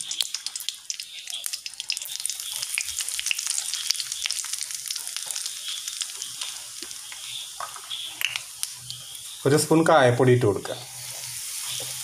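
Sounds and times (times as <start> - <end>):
hot oil sizzling and popping: 0.0 - 12.0.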